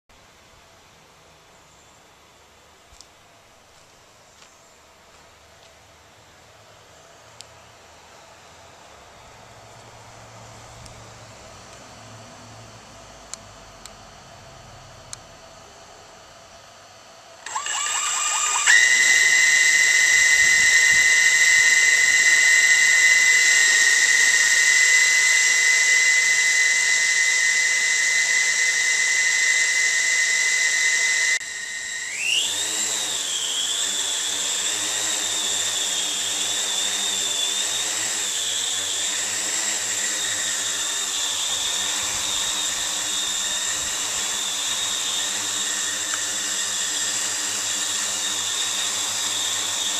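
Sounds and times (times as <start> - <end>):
drone motors whining: 9.4 - 49.9.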